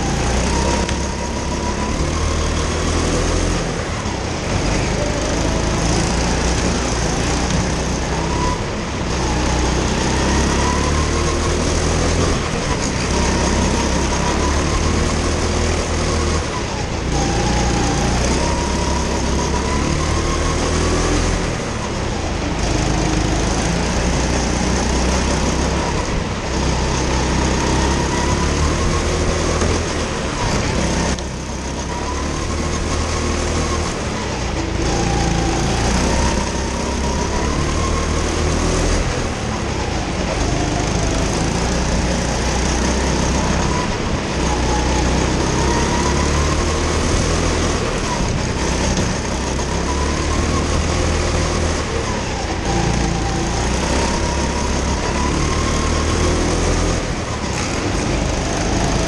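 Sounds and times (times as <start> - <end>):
go-kart engine racing: 0.0 - 59.0.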